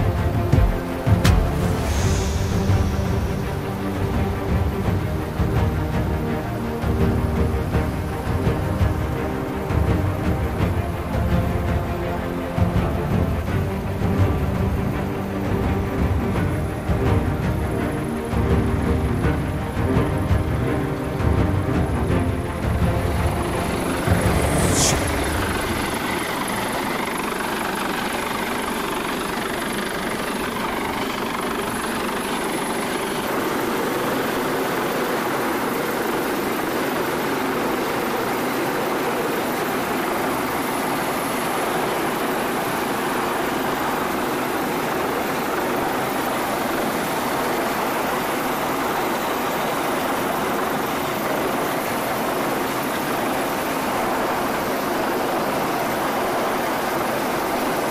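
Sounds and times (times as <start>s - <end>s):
helicopter hovering overhead: 0.0s - 57.9s.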